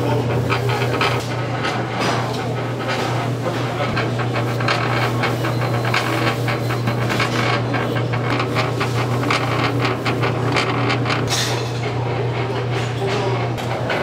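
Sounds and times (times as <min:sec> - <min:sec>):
kitchen work clicks and knocks: 0:00.0 - 0:14.0
low machine hum: 0:00.0 - 0:14.0.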